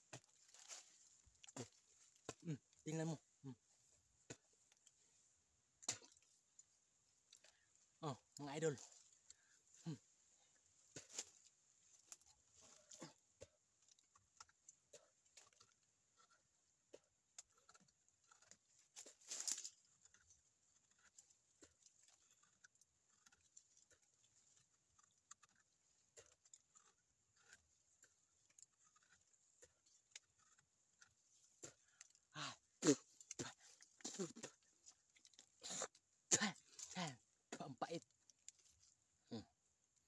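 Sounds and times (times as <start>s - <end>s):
teeth gnawing bark: 0.0s - 40.0s.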